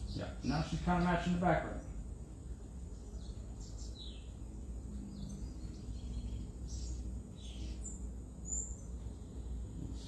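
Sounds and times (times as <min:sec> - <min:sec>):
birds chirping: 0:00.0 - 0:10.0
low outdoor rumble: 0:00.0 - 0:10.0.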